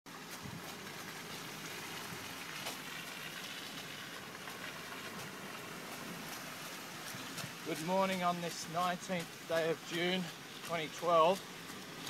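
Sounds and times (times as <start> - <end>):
car tyres rolling on wet dirt: 0.1 - 12.0.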